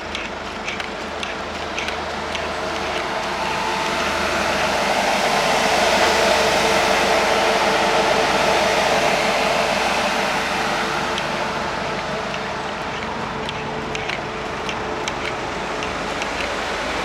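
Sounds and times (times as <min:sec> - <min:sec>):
refrigerated van whirring hum: 0:00.0 - 0:17.0.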